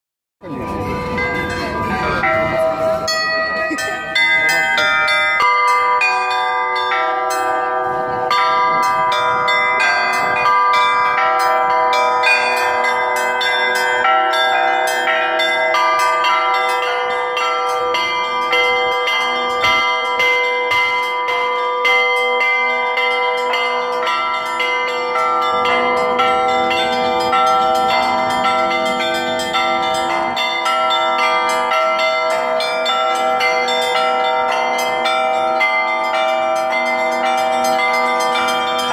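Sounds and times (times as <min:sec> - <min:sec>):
bronze bells ringing: 0:00.4 - 0:38.9.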